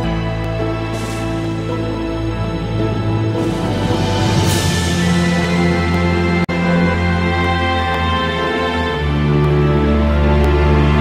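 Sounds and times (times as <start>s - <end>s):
background music of sustained chords: 0.0s - 11.0s.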